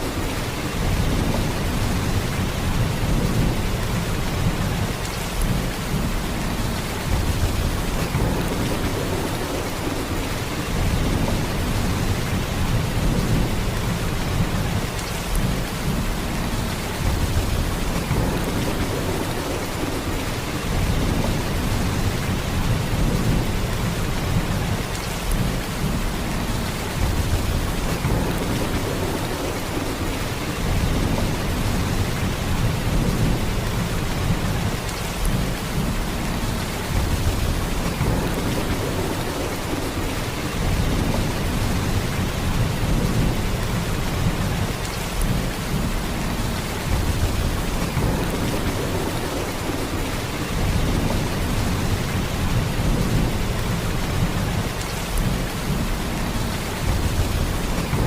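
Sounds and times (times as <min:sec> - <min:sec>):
heavy rain downpour: 0:00.0 - 0:58.0.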